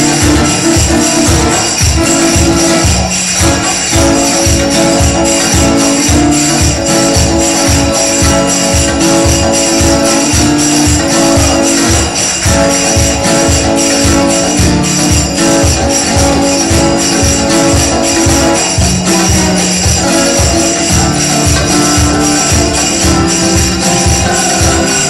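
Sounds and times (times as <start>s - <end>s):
live band music: 0.0s - 25.0s
low drum beat: 0.0s - 25.0s.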